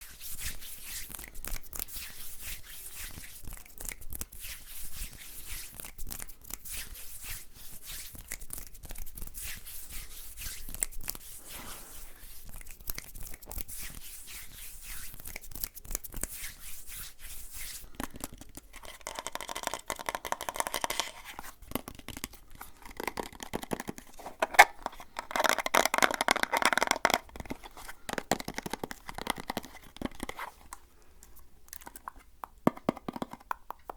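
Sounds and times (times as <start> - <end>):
close crackling and crinkling: 0.0 - 33.9.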